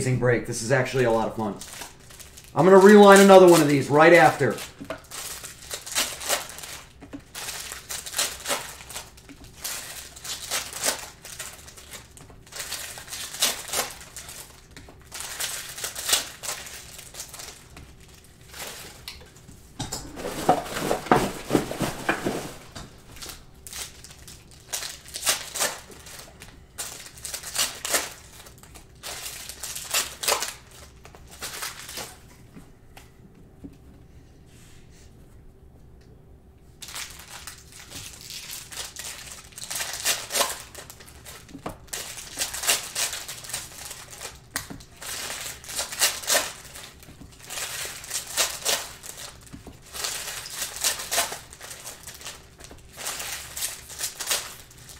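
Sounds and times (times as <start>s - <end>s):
foil wrappers crinkling: 0.6s - 32.4s, 36.8s - 54.9s.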